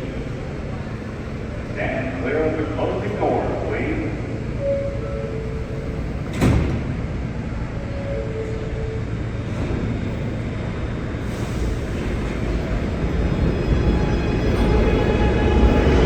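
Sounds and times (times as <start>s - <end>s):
train rumble pulling out: 0.0s - 16.0s.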